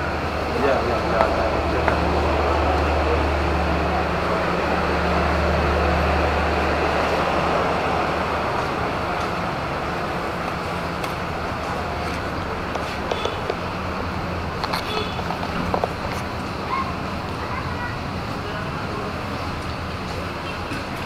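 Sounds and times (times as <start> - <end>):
broad rushing noise: 0.0 - 21.0
vehicle engine humming: 0.0 - 21.0.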